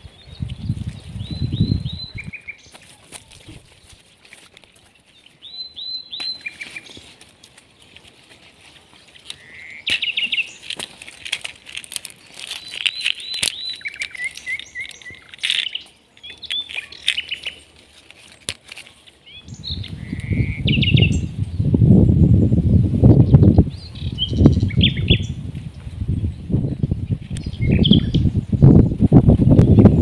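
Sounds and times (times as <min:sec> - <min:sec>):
leaves and vines rustling: 0:00.0 - 0:30.0
small birds singing: 0:00.0 - 0:30.0.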